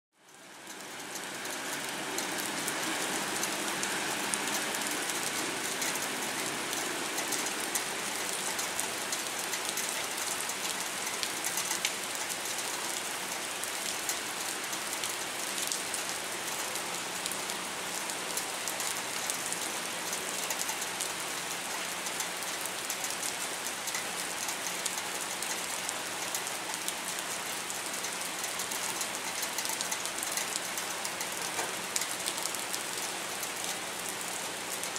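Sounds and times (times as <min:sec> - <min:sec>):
rain on concrete: 0:00.1 - 0:34.9.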